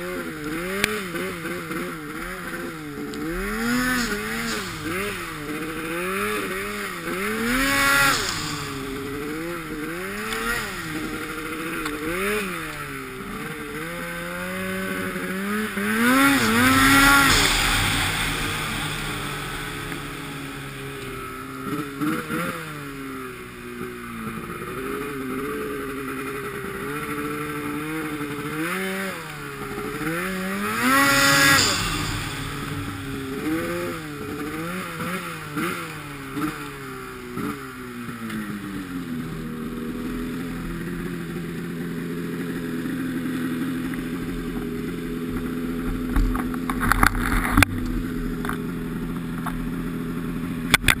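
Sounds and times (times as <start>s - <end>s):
snowmobile engine revving and idling: 0.0s - 51.0s.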